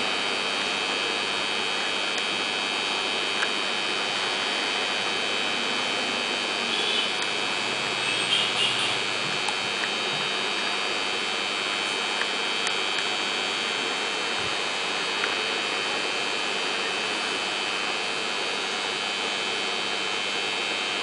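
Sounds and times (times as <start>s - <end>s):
aquarium filter hiss and hum: 0.0s - 21.0s.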